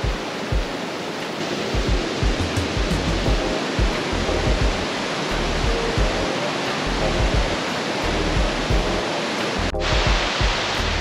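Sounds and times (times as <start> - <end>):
background music with beat: 0.0 - 0.8, 1.6 - 11.0
stream rapids rushing: 0.0 - 11.0.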